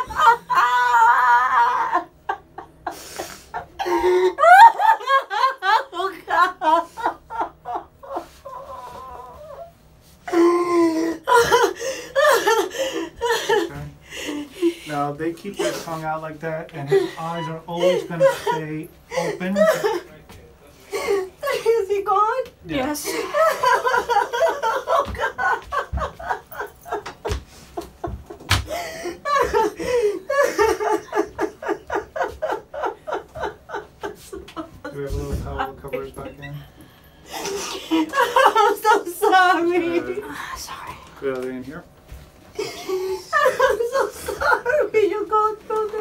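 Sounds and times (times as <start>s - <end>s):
woman crying and wailing: 0.0s - 14.9s, 16.8s - 20.1s, 20.9s - 27.3s, 28.6s - 36.6s, 37.3s - 40.5s, 42.6s - 46.0s
woman sobbing: 0.0s - 16.0s, 16.8s - 20.2s, 20.9s - 40.9s, 42.5s - 46.0s.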